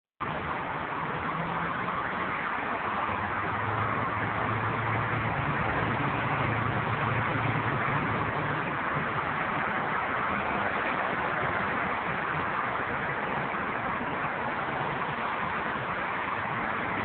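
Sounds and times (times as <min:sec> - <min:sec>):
freeway traffic rushing: 0:00.2 - 0:17.0
low engine hum: 0:00.2 - 0:17.0.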